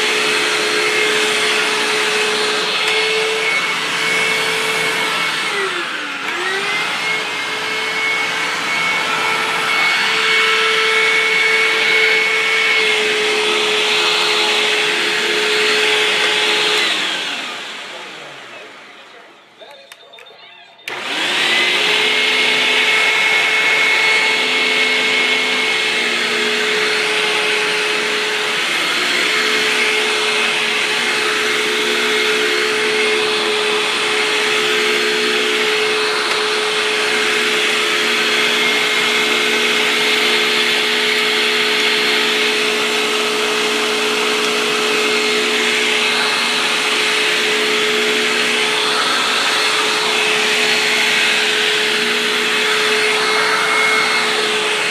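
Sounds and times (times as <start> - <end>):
vacuum cleaner motor whining: 0.0 - 54.9.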